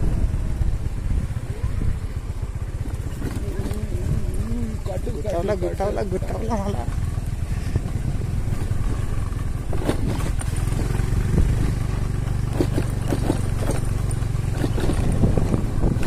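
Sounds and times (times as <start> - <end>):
motorcycle engine running: 0.0 - 16.0
knocks and rattles from bumps: 2.6 - 16.0.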